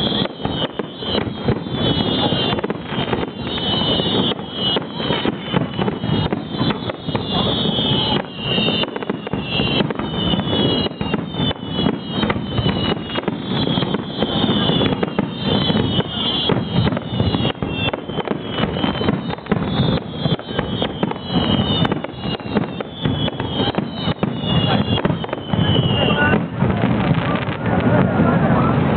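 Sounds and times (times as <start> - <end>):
firework shell bursts and bangs: 0.0 - 27.6
fireworks whistling: 0.0 - 28.9.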